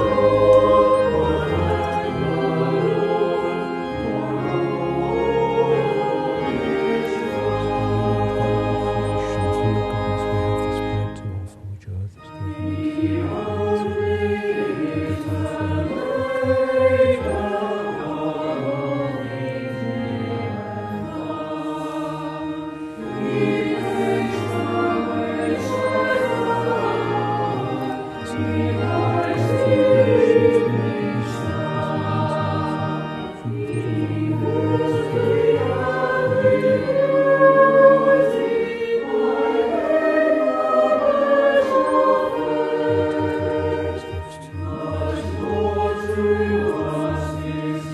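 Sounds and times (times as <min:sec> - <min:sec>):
choir singing: 0:00.0 - 0:11.4, 0:12.2 - 0:47.9.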